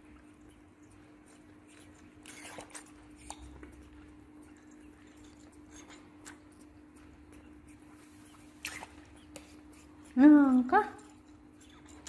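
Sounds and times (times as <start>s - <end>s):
baby monkeys suckling: 0.0s - 12.0s
steady low hum: 0.0s - 12.0s.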